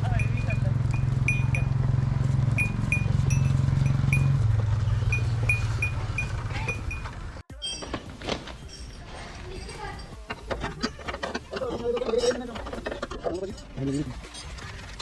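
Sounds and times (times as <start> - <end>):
two-stroke engine idling: 0.0 - 7.4, 9.8 - 15.0.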